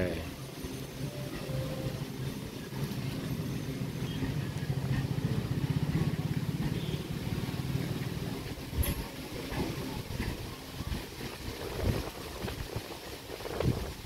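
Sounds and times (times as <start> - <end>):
train running past on rails: 0.0 - 14.0.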